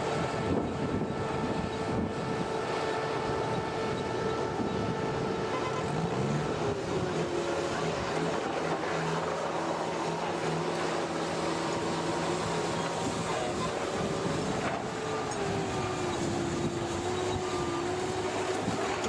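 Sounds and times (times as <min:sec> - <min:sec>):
machinery engine drone: 0:00.0 - 0:19.0.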